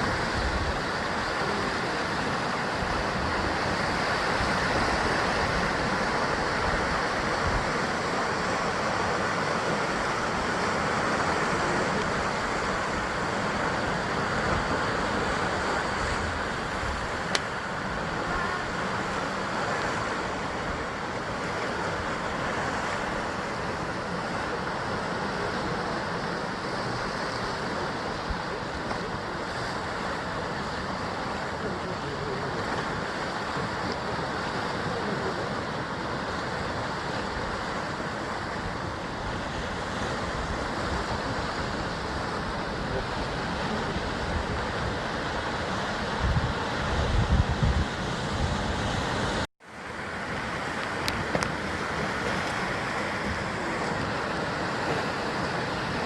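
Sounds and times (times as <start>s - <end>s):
waves washing against rocky shore: 0.0s - 56.0s.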